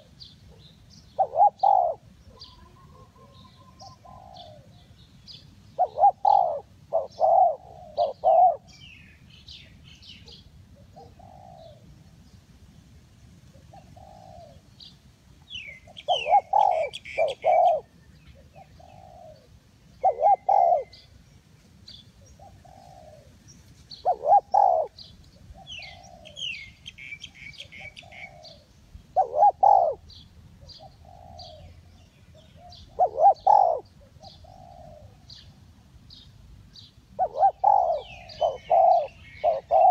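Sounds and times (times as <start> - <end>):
dove cooing: 0.0 - 8.8, 10.2 - 12.0, 13.5 - 14.7, 15.6 - 21.2, 22.2 - 35.6, 37.1 - 39.9
small birds chirping: 0.0 - 12.5, 13.6 - 39.9.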